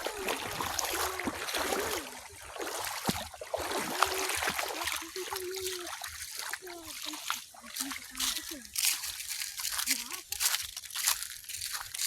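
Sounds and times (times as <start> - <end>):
water splashing and flowing: 0.0 - 12.0.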